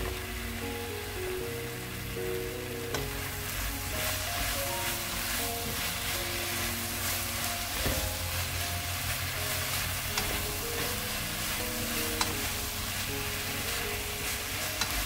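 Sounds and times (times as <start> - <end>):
food sizzling in a wok: 0.0 - 15.0
spatula scraping wok: 2.9 - 15.0.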